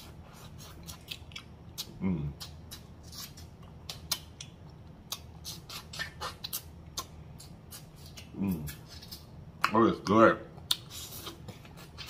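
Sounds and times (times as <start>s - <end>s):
wet mouth eating sounds: 0.0s - 12.0s.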